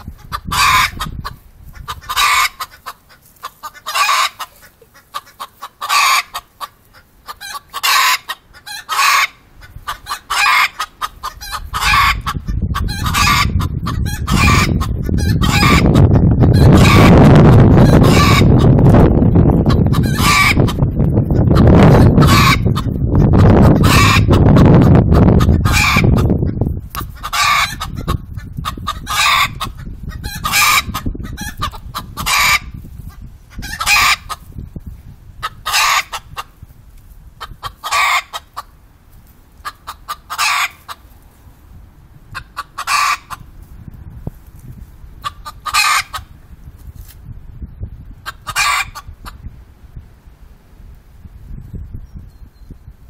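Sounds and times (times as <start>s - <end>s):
chickens calling: 0.0s - 34.6s, 35.4s - 36.6s, 37.4s - 41.3s, 42.3s - 43.6s, 44.5s - 46.5s, 48.2s - 49.5s.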